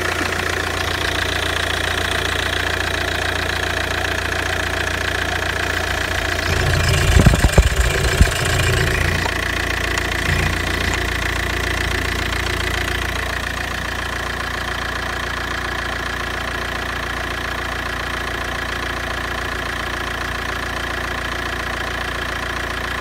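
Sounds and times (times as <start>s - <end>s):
diesel car engine idling: 0.0s - 23.0s.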